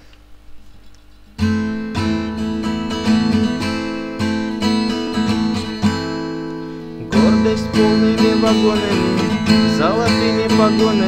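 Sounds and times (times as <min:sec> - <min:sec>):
acoustic guitar strumming: 0:01.3 - 0:11.0.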